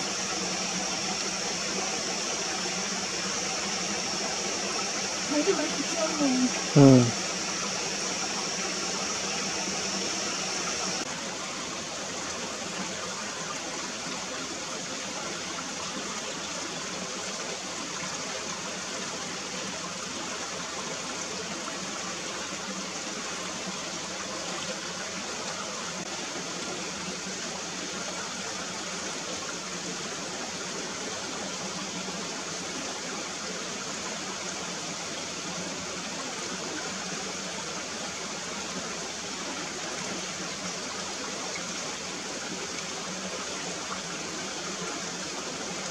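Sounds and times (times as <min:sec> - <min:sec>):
stream flowing over stones: 0:00.0 - 0:45.9.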